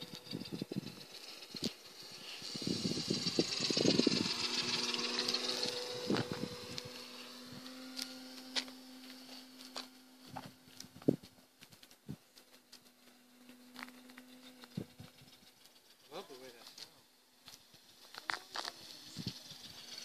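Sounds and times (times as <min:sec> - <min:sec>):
model aircraft motor whining: 0:00.0 - 0:20.0.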